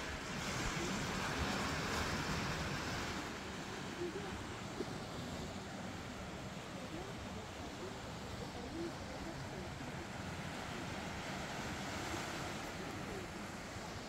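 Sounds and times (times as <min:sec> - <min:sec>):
surf washing over rocks: 0:00.0 - 0:14.0.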